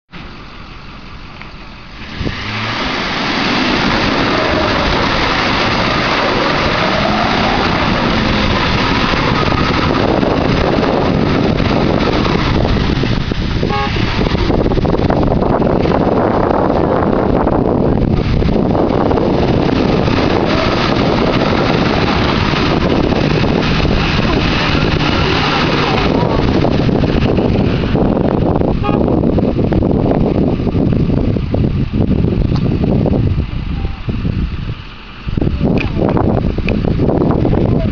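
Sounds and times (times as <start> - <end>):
truck engine revving: 0.1 - 37.9
tyres spinning in mud: 2.0 - 32.3.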